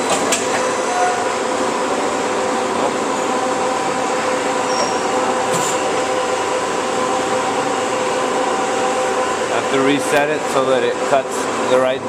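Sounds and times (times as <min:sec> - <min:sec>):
band saw running: 0:00.0 - 0:12.0.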